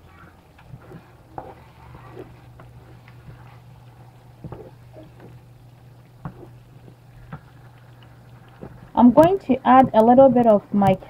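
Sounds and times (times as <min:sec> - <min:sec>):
wooden spoon scraping a pot: 0:00.0 - 0:10.6
low hum: 0:00.0 - 0:11.0.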